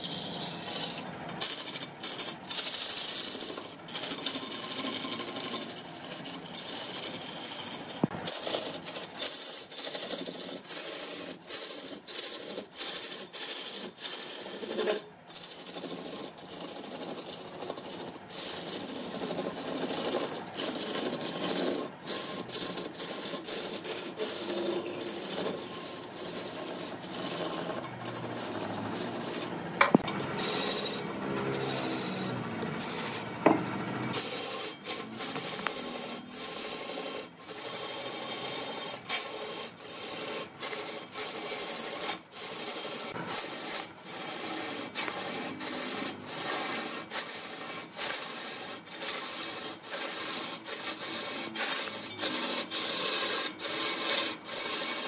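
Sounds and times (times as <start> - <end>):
tool scraping on wood: 0.0 - 55.0.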